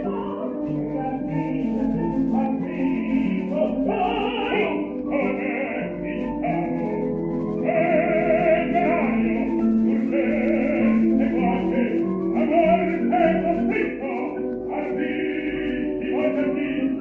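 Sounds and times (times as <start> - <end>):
instrumental accompaniment: 0.0 - 17.0
operatic singing: 0.0 - 17.0.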